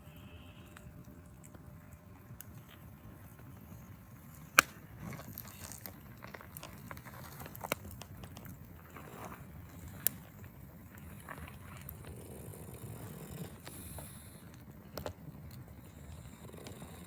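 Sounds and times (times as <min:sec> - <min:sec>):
campfire crackling and popping: 0:00.6 - 0:17.0.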